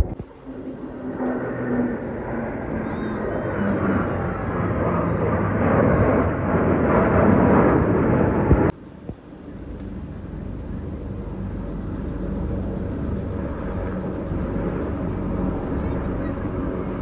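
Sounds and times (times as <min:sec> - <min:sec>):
helicopter rotor rumble: 0:00.0 - 0:17.0
jet roar: 0:00.0 - 0:17.0.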